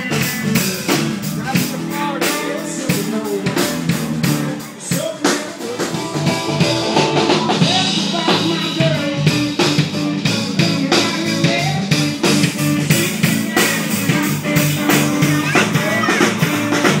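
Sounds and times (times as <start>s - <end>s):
drum kit beat: 0.0s - 17.0s
electric guitar: 0.0s - 17.0s
person singing: 0.0s - 17.0s.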